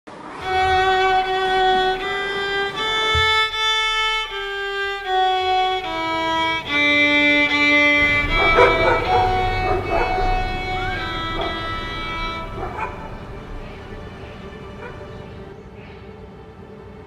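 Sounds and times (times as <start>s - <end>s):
violin playing slow melody: 0.4s - 15.5s.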